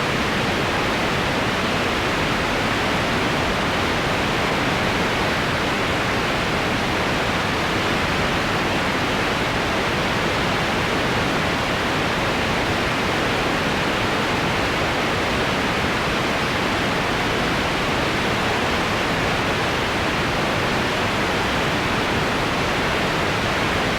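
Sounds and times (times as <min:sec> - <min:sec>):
white noise hiss: 0:00.0 - 0:23.9.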